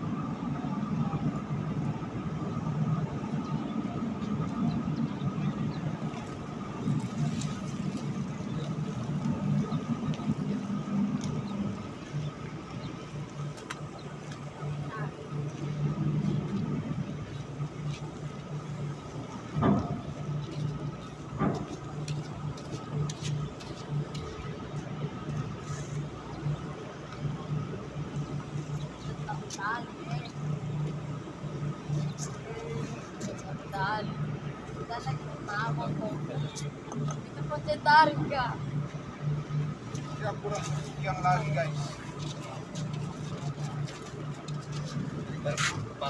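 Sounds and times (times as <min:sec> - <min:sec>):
ship engines droning: 0:00.0 - 0:46.0.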